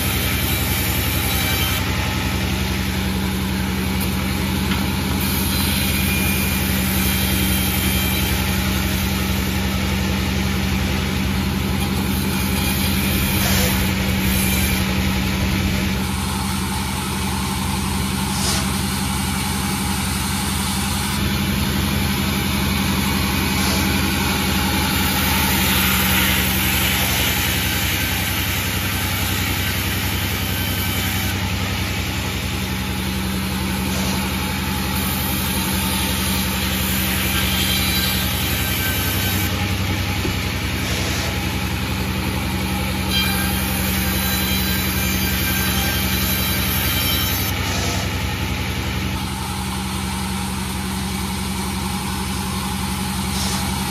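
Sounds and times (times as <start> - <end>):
sawmill engine humming: 0.0 - 53.9.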